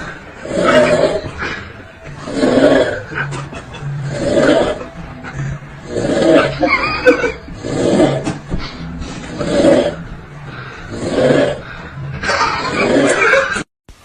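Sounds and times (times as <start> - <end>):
loud snoring: 0.0 - 13.7.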